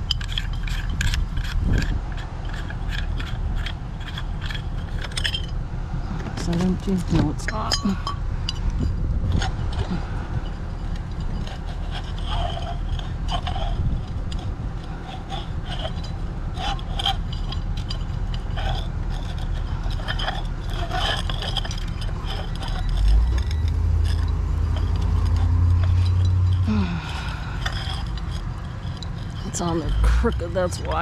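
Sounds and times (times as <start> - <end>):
metal and glass scrap clinking: 0.0 - 5.6, 6.4 - 31.0
steady low rumble: 0.0 - 31.0.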